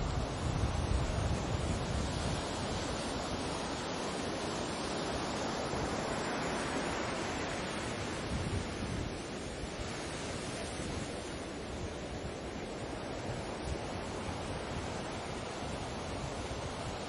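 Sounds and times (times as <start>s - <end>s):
waves washing in: 0.0s - 17.0s.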